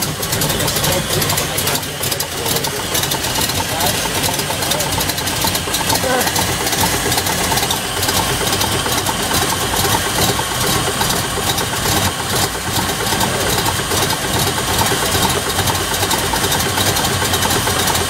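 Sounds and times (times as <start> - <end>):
engine idling: 0.0 - 18.0
fast even engine ticking: 0.0 - 18.0.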